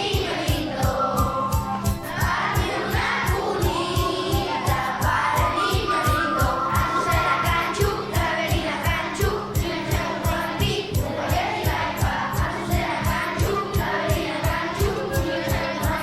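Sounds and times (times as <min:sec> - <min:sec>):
group of voices singing: 0:00.0 - 0:16.0
music with fast beat: 0:00.0 - 0:16.0.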